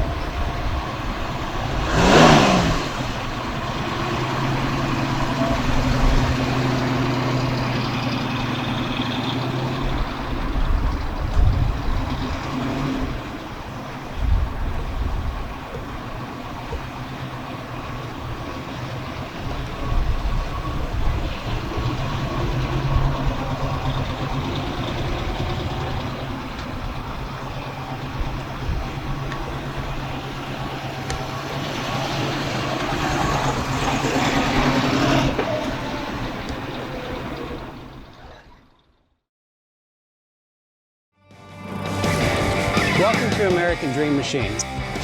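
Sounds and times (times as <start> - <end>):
car engine running: 0.0 - 38.8, 41.8 - 45.0.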